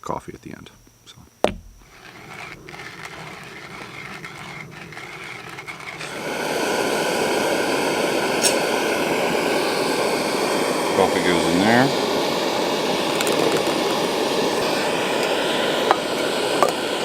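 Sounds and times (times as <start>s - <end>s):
camp stove burner roaring: 0.6s - 17.0s.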